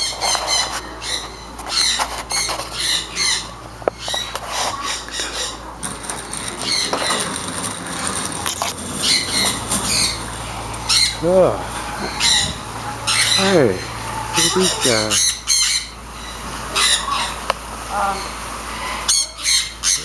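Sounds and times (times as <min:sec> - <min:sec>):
birds squawking: 0:00.0 - 0:20.0.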